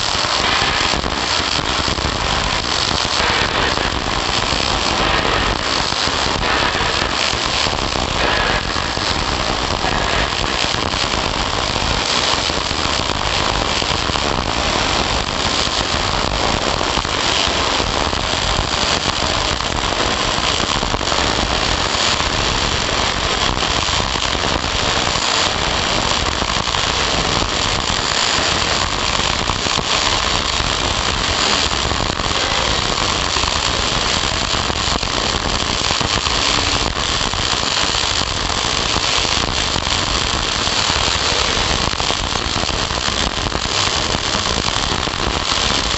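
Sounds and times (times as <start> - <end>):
arc welding crackle and sizzle: 0.0 - 45.9.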